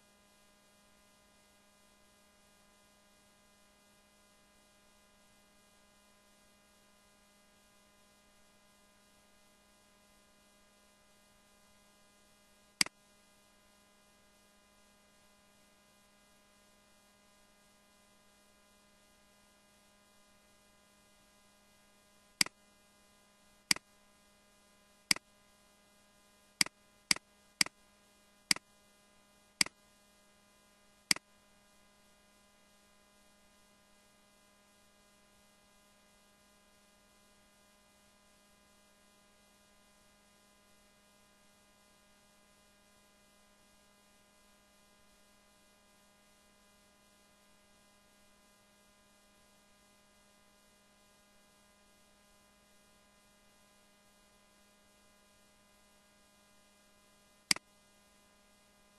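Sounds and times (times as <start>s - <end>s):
low electrical hum: 0.0s - 58.9s.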